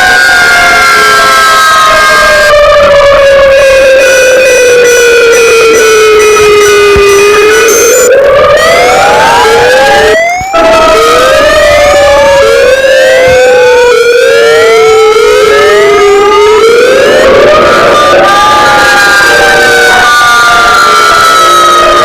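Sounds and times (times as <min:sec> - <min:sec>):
electronic siren whoops: 0:00.0 - 0:22.0
slowly falling alarm tone: 0:00.0 - 0:22.0.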